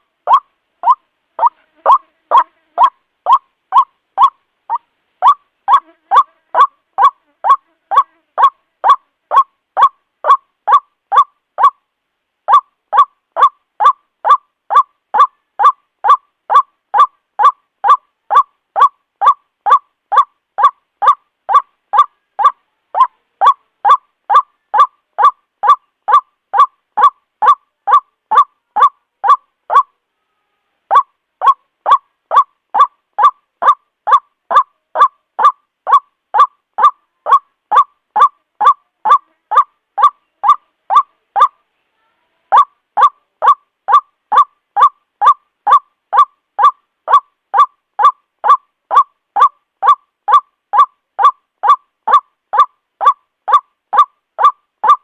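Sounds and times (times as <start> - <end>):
bird nasal kwak call: 0.0 - 11.9, 12.5 - 30.0, 30.9 - 41.6, 42.5 - 55.0.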